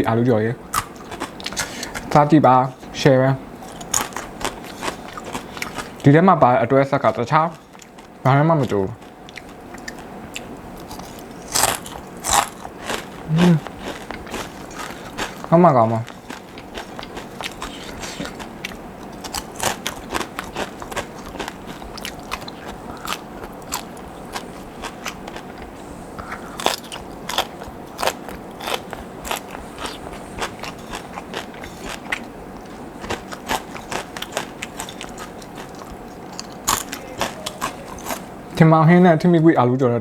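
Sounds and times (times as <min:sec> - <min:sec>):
person chewing crunchy food: 0:00.7 - 0:06.1, 0:06.9 - 0:38.6.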